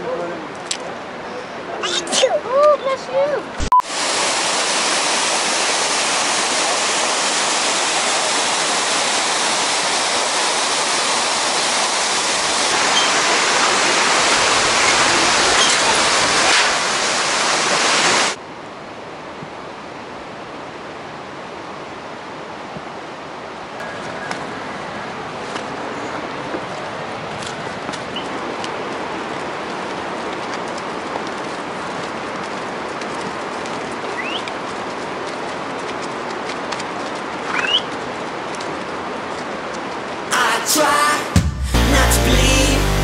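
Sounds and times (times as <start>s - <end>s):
mountain stream rushing over rocks: 0.0s - 43.0s.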